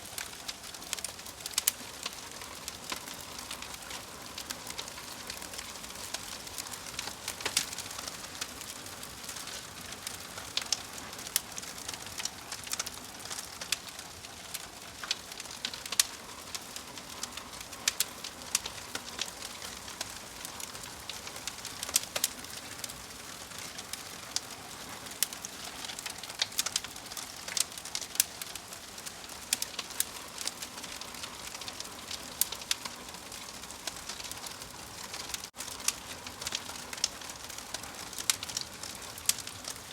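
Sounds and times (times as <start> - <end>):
soft hiss of fire: 0.0 - 39.9
wood fire crackling: 0.0 - 39.9.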